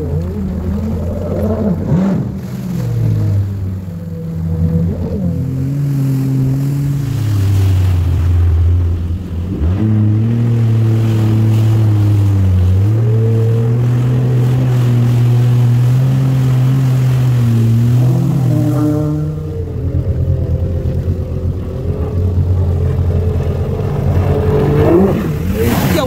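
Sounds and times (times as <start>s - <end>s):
jet ski engine running: 0.0s - 26.0s.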